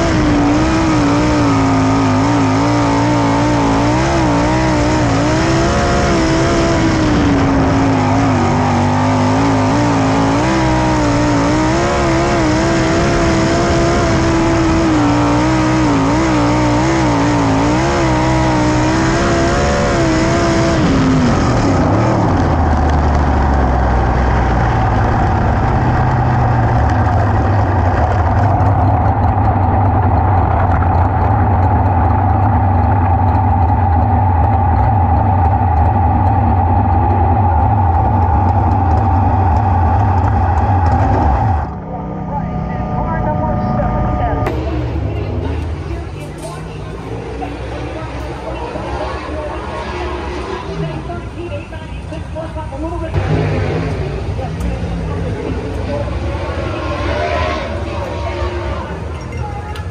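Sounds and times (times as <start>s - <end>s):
race car engines running hard: 0.0s - 59.9s.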